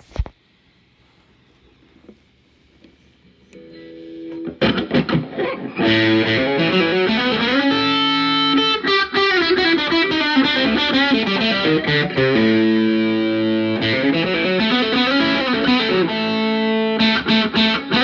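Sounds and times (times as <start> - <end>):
distorted electric guitar: 3.6 - 18.0.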